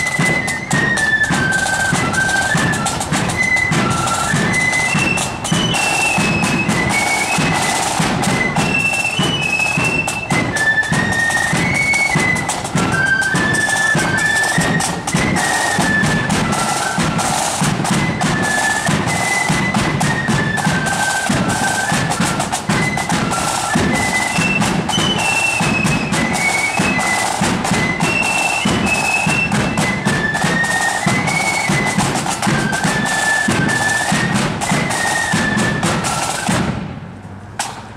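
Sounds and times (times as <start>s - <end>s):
flutes playing a tune: 0.0s - 36.8s
snare and bass drums marching: 0.0s - 37.9s.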